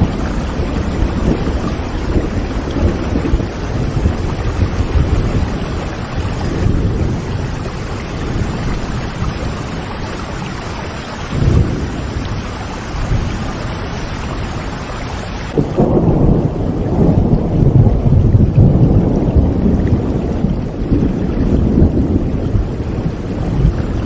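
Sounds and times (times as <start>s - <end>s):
rolling thunder: 0.0s - 14.7s, 15.4s - 24.0s
heavy rain: 0.0s - 24.0s.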